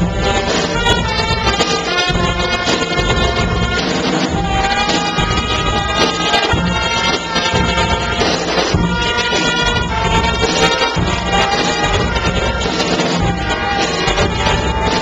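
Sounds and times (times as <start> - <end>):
brass holding notes: 0.0 - 15.0
percussion beat: 0.0 - 15.0.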